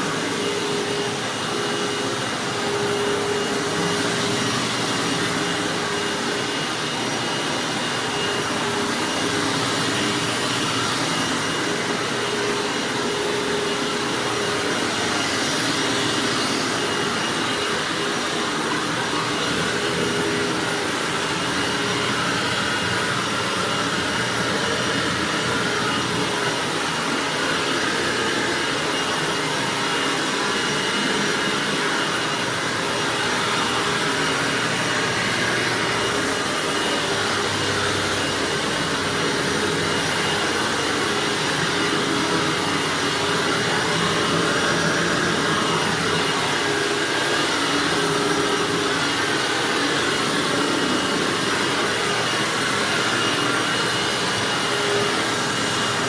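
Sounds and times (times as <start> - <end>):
upright vacuum running on carpet: 0.0 - 56.0.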